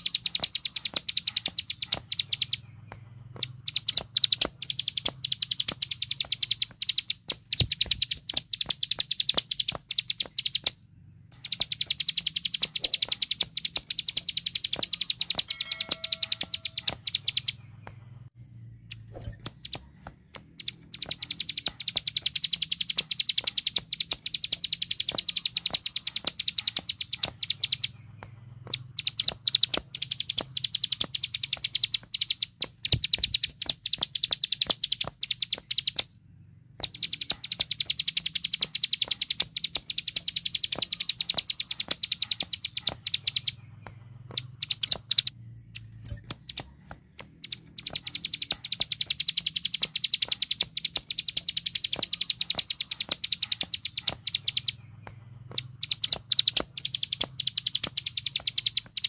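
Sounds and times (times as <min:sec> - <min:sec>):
bird singing rapid ticking song: 0:00.0 - 0:59.0.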